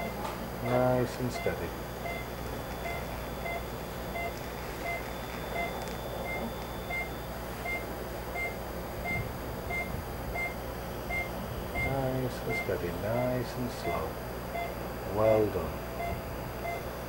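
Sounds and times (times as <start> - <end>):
low equipment hum: 0.0 - 17.0
patient monitor beeping: 0.0 - 17.0.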